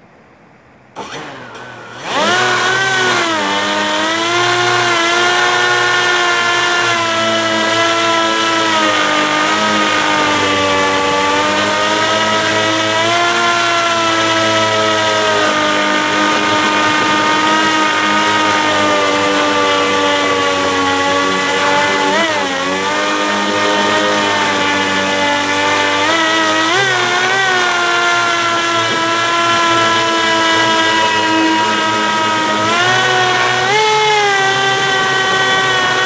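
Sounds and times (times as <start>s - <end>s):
airboat engine and propeller revving: 1.0s - 36.0s.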